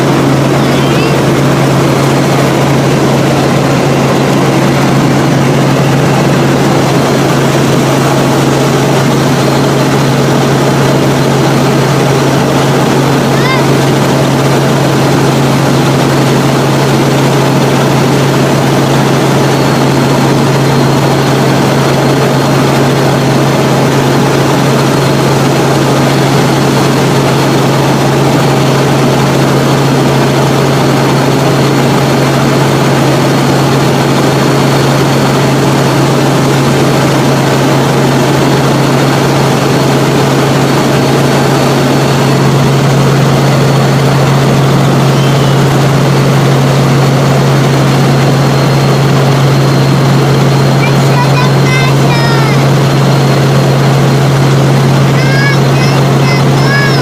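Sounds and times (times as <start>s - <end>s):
high whine: 0.0s - 28.4s, 34.9s - 57.0s
helicopter rotor and engine drone: 0.0s - 57.0s.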